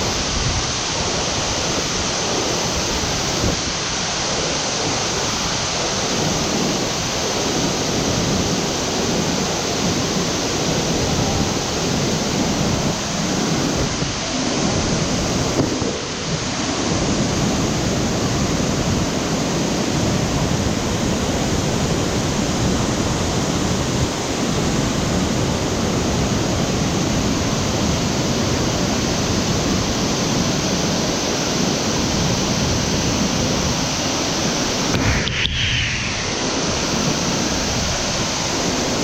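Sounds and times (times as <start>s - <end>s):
waterfall roar: 0.0s - 39.0s.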